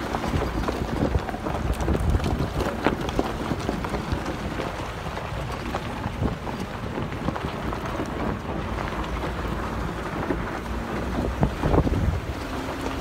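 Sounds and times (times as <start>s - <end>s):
jeep driving rumble: 0.0s - 13.0s
wind buffeting microphone: 0.0s - 13.0s.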